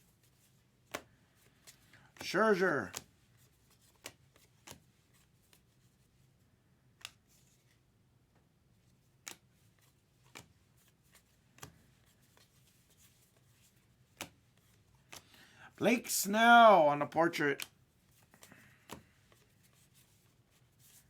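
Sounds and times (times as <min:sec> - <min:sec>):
trading cards flipped by hand: 0:00.2 - 0:06.3, 0:06.9 - 0:16.7, 0:17.3 - 0:21.0.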